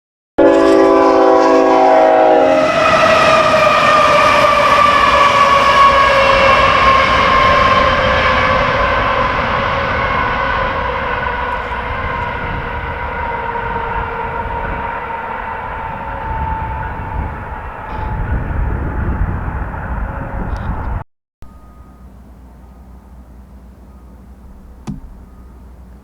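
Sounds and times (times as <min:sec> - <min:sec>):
locomotive horn chord: 0:00.4 - 0:25.9
locomotive rumble: 0:00.4 - 0:26.0.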